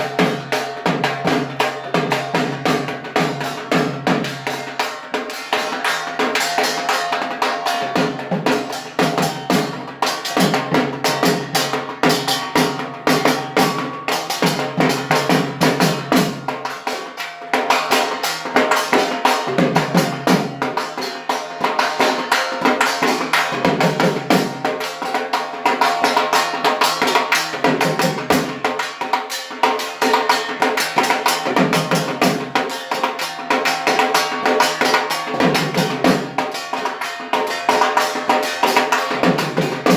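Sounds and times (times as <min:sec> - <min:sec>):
barrel drum beaten with sticks: 0:00.0 - 0:39.9.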